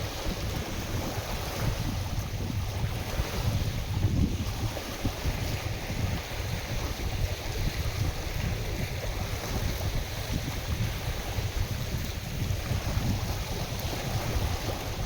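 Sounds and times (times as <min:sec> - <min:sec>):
lake waves splashing: 0:00.0 - 0:15.0
wind buffeting microphone: 0:00.0 - 0:15.0.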